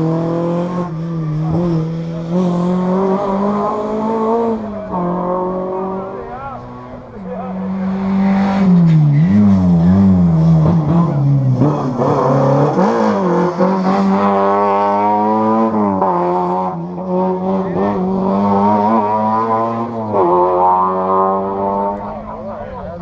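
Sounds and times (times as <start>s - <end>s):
rally car engine at high revs: 0.0s - 23.0s.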